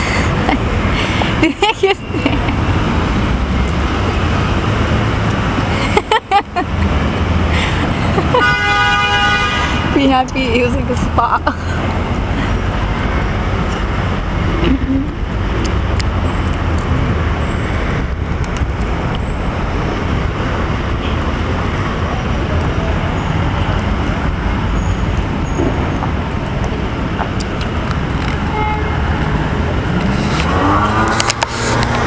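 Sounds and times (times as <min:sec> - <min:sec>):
city traffic noise: 0:00.0 - 0:32.0.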